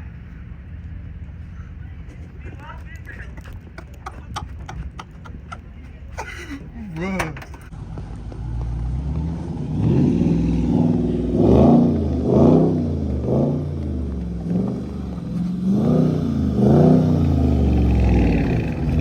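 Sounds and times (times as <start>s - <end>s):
car engine revving: 2.4s - 19.0s.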